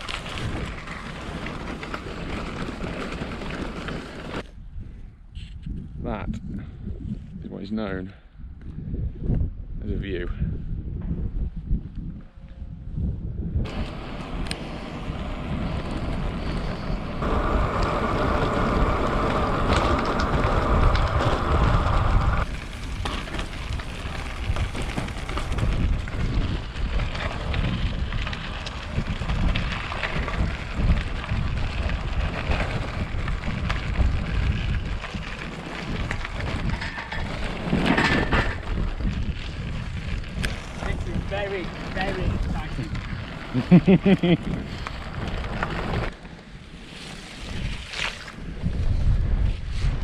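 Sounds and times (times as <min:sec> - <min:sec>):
wind buffeting microphone: 0:00.0 - 0:46.2, 0:47.4 - 0:50.0.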